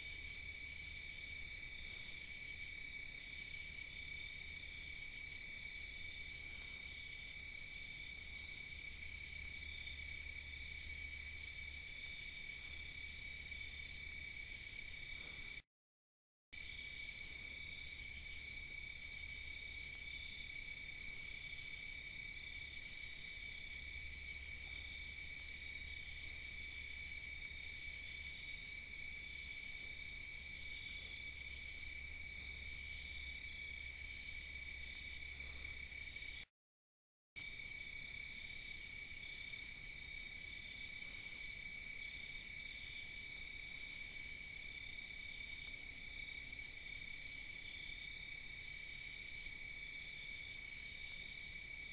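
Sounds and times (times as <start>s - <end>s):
crickets trilling: 0.0s - 15.6s, 16.6s - 36.4s, 37.4s - 51.9s.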